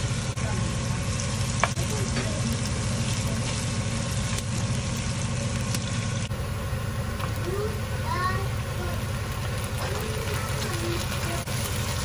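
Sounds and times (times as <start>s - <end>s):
onion and garlic sizzling: 0.0s - 12.0s
steady low hum: 0.0s - 12.0s.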